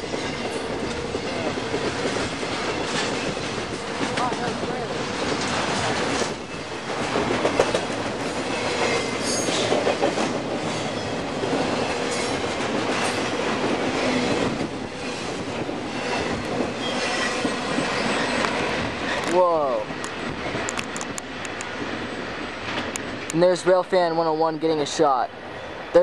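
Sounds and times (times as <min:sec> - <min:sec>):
wheels clacking over rail joints: 0:00.0 - 0:21.9
train cars rolling past: 0:00.0 - 0:26.0.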